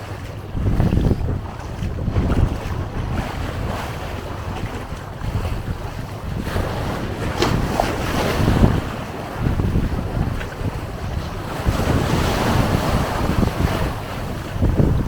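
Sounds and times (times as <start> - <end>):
sea waves washing on shore: 0.0 - 15.0
wind buffeting microphone: 0.0 - 15.0.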